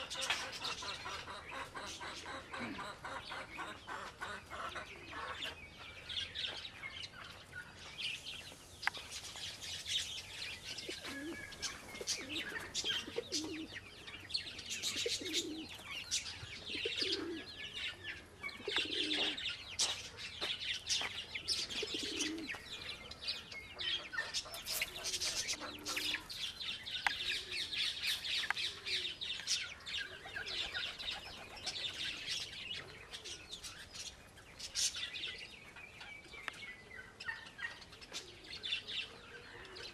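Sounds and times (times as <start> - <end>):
pigeons cooing: 0.0 - 5.6, 9.4 - 20.5, 21.4 - 34.1, 37.2 - 39.9
small birds chirping: 0.0 - 39.9.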